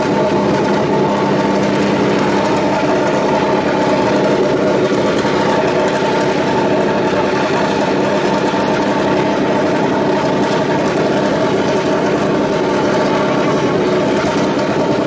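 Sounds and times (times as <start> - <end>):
race car engine idling: 0.0 - 15.0.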